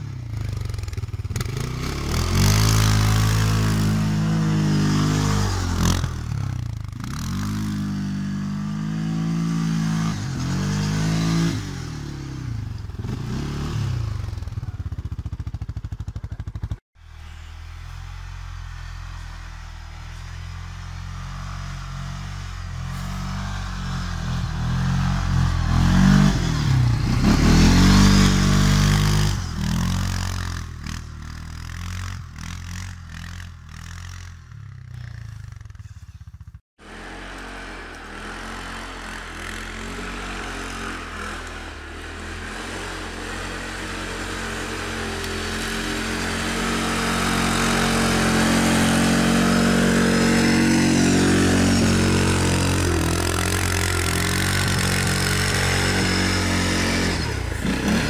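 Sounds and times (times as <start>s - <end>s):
atv engine revving past: 0.0s - 14.8s, 17.1s - 36.0s, 36.8s - 58.0s.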